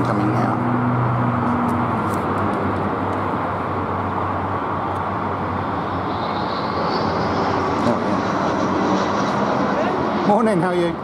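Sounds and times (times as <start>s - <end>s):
high jet engine whine: 0.0s - 11.0s
jet airliner roar overhead: 0.0s - 11.0s.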